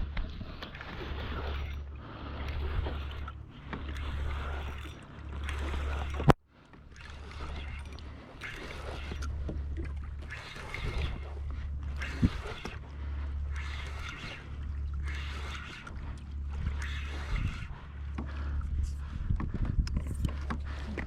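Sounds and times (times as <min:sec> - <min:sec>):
water splashing against kayak hull: 0:00.0 - 0:21.0.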